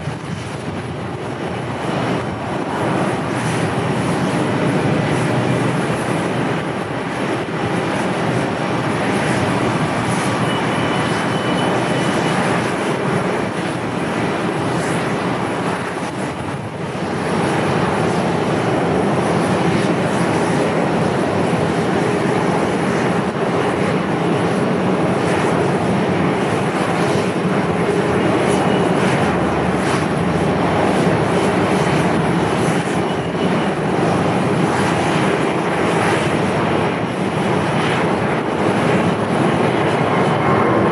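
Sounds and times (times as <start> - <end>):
airliner engines running: 0.0 - 40.9.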